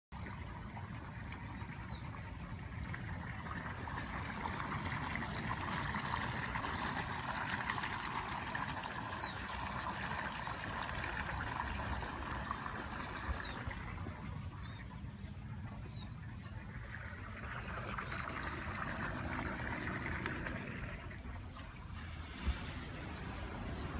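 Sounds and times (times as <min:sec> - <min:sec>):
water trickling: 0:00.2 - 0:22.8.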